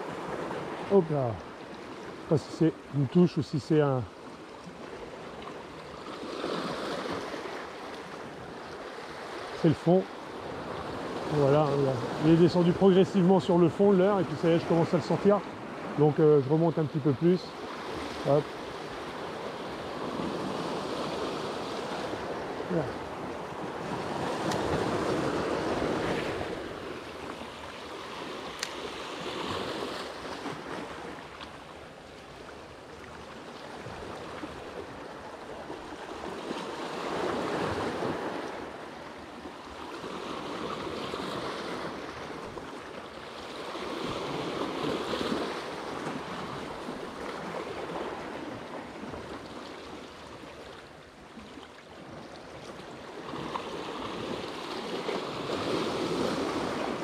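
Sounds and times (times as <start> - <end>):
small waves breaking on rocks: 0.0 - 57.0.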